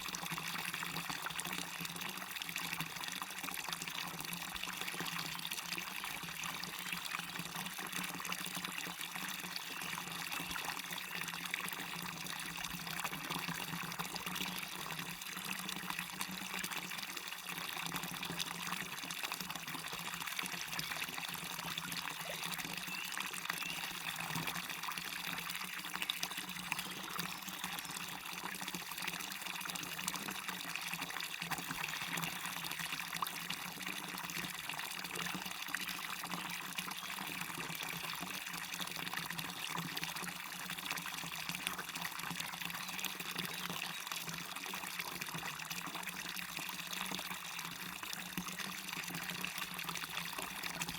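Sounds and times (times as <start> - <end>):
small waterfall splashing into stream: 0.0 - 50.9.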